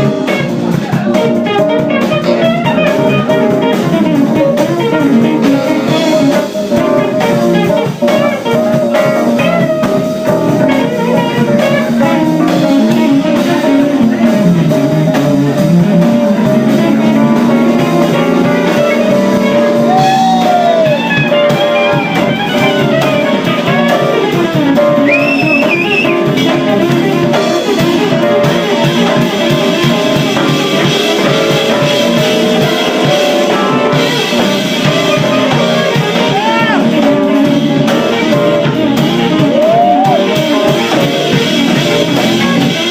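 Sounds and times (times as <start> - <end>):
drum kit: 0.0 - 42.9
guitar: 0.0 - 42.9.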